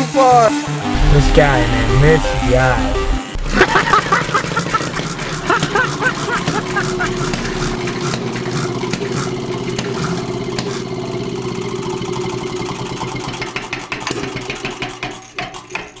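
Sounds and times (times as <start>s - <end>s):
engine running: 0.5s - 14.5s.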